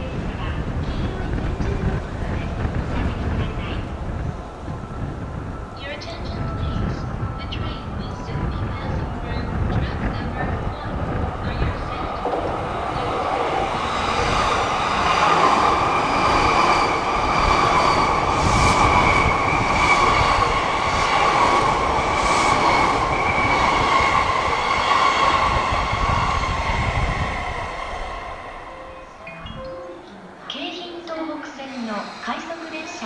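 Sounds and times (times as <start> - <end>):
electric train passing: 0.0 - 33.0
high train whine: 0.0 - 33.0.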